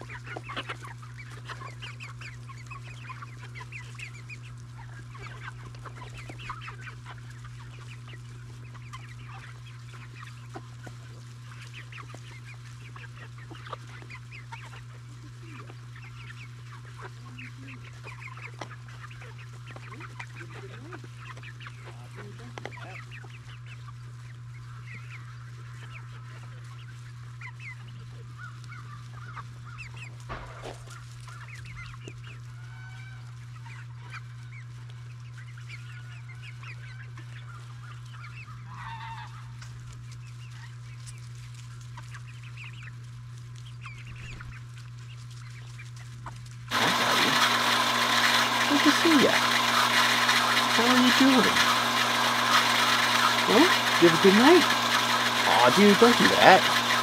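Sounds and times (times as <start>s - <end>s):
hens clucking: 0.0s - 57.0s.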